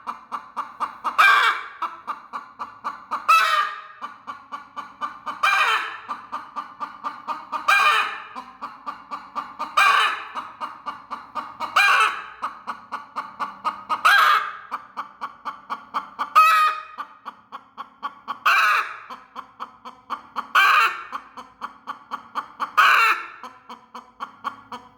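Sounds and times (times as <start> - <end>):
hen clucking: 0.0 - 24.9.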